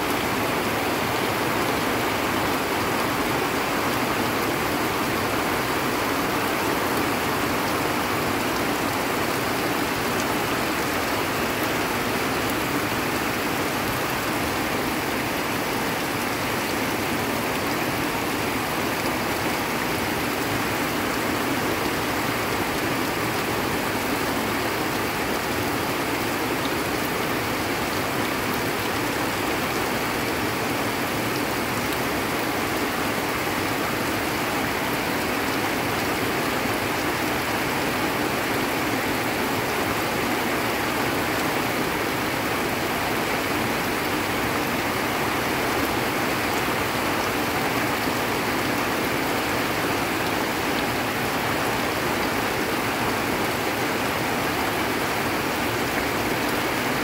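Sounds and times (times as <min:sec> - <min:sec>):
runoff water rushing: 0:00.0 - 0:57.0
torrential rain on leaves: 0:00.0 - 0:57.0.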